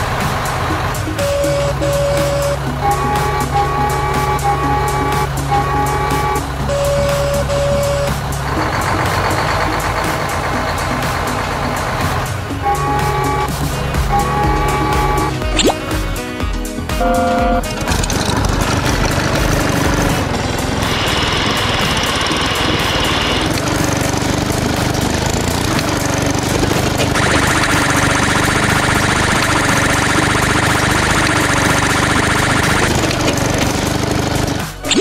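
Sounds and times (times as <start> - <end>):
small machine engine rattling: 0.0 - 14.4, 17.7 - 35.0.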